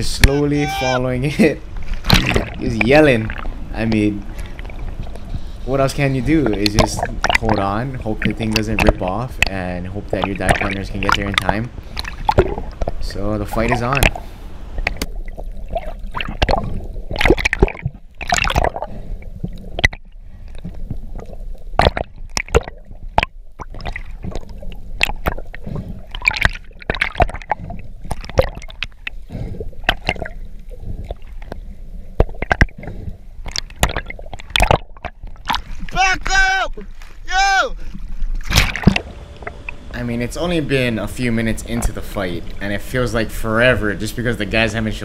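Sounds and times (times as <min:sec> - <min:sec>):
water gurgling and sloshing underwater: 0:00.0 - 0:36.0, 0:37.8 - 0:45.0.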